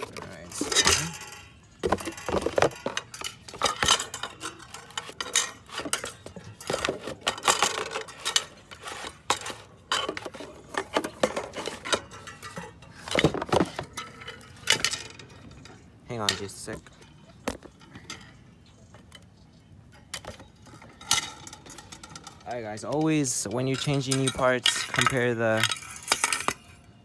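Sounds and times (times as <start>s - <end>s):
metal brake parts clinking: 0.0s - 27.0s.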